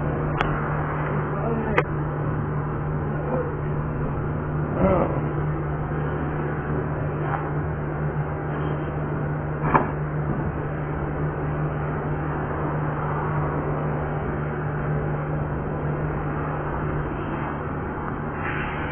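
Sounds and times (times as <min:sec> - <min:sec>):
shop equipment humming: 0:00.0 - 0:18.9.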